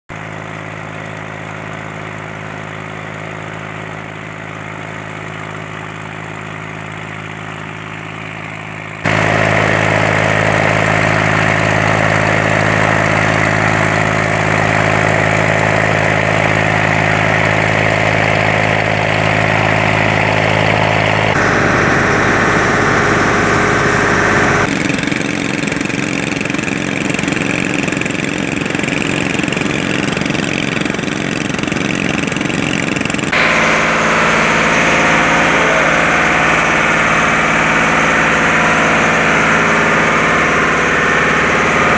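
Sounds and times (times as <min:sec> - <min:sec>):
boat engine humming: 0:00.2 - 0:41.9.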